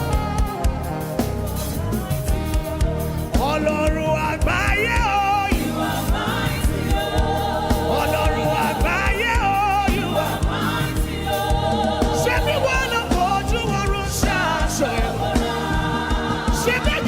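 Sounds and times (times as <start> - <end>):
band with drum beat: 0.0 - 17.0
gospel singing: 0.0 - 17.0.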